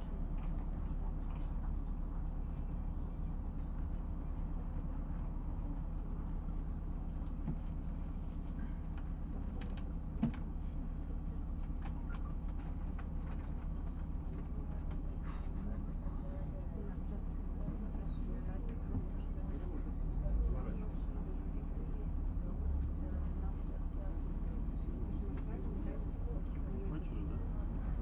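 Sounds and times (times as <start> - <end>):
bus engine drone: 0.0 - 28.0.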